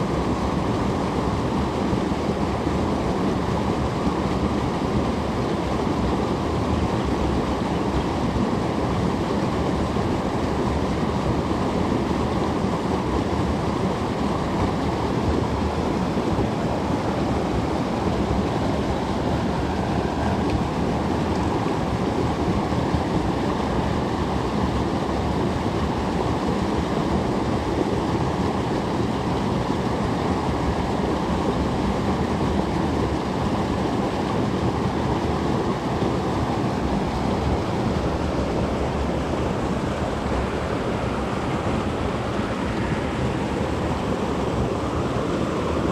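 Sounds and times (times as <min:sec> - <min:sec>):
creek water rushing: 0:00.0 - 0:45.9.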